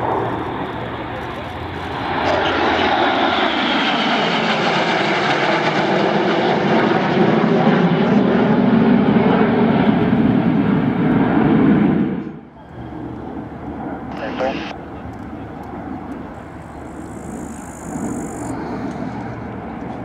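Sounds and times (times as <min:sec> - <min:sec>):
jets flying overhead: 0:00.0 - 0:20.0.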